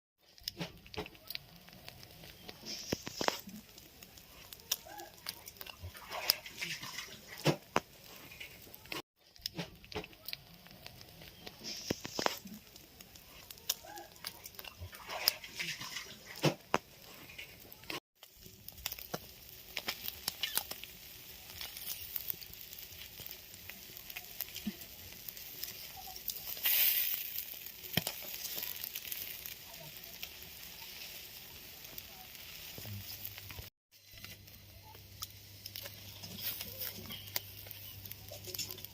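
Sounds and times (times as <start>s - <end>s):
fish sizzling in hot oil: 0.2s - 38.9s.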